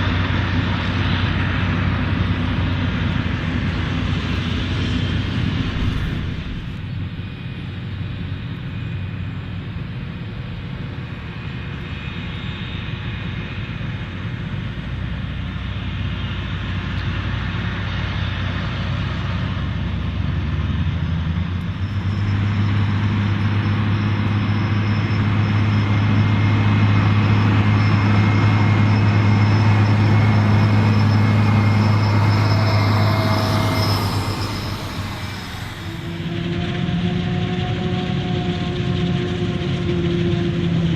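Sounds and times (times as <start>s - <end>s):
heavy machinery engines humming: 0.0s - 40.9s.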